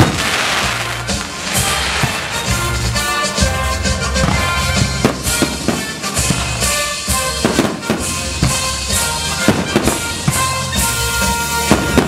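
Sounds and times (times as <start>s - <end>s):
fireworks bangs and crackles: 0.0s - 12.0s
music with drum beat: 0.0s - 12.0s.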